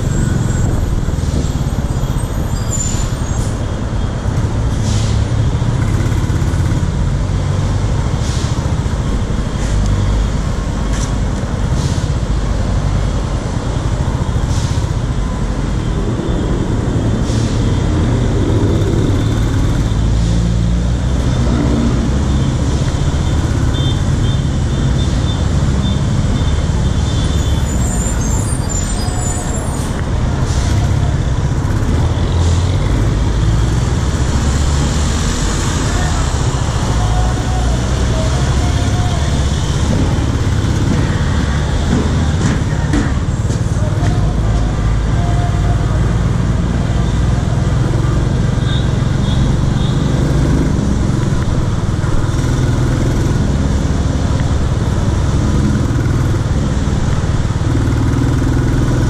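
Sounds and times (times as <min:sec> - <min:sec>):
bus and cars rumbling: 0:00.0 - 0:59.0.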